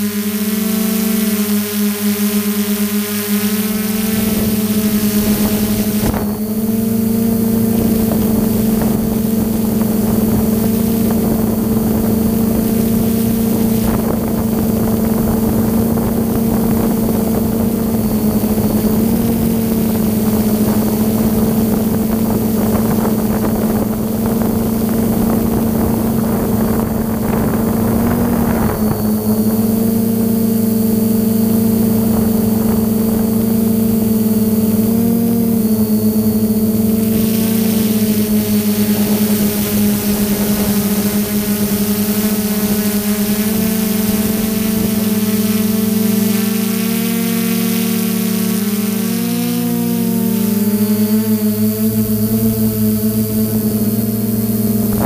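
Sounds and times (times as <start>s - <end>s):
drone motors humming: 0.0s - 55.0s
wind on microphone: 3.7s - 48.0s, 51.6s - 55.0s.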